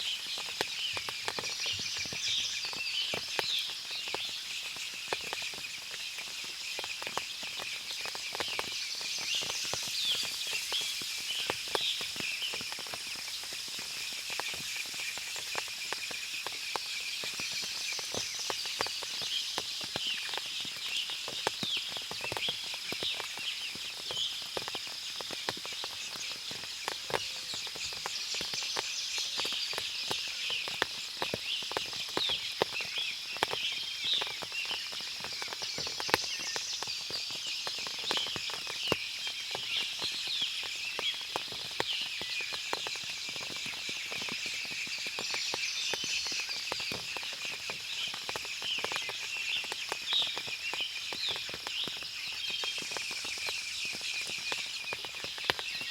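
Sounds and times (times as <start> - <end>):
small birds chirping: 0.0 - 55.9
water dripping: 0.0 - 55.9.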